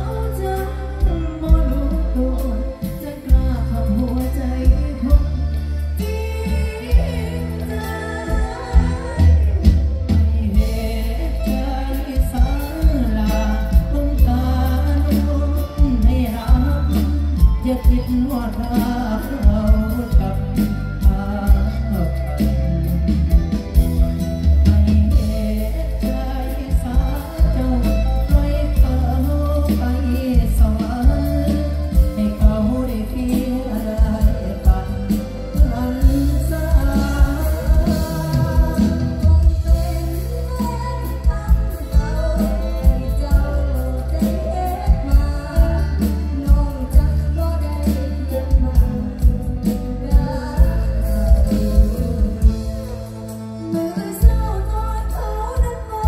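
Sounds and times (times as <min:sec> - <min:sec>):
person singing: 0:00.0 - 0:56.0
steady drum beat: 0:01.0 - 0:54.6.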